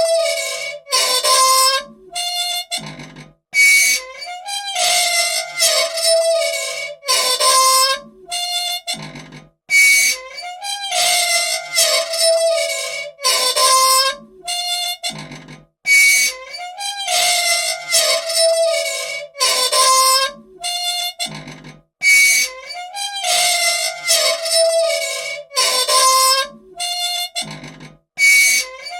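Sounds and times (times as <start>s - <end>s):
squeaky machine squealing and creaking: 0.0s - 28.9s.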